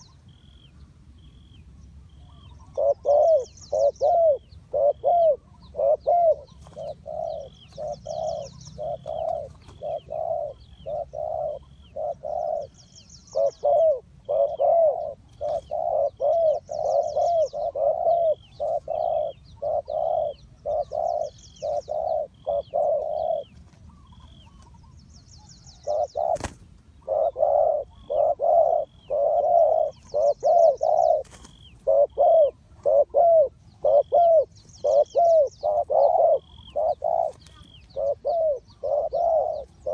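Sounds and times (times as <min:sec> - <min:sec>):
doves cooing: 0:02.2 - 0:25.0, 0:25.7 - 0:39.9.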